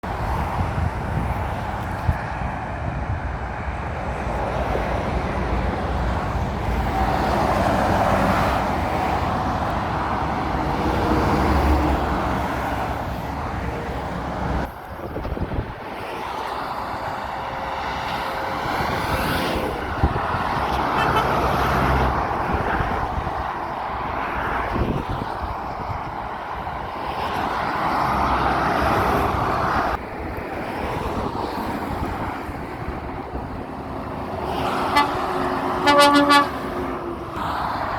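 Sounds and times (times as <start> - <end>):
trucks and cars passing: 0.0 - 37.9.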